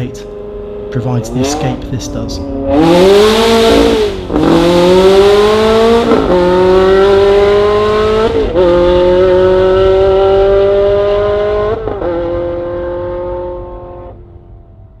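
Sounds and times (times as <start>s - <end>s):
car engine accelerating with upshifts: 0.0s - 15.0s.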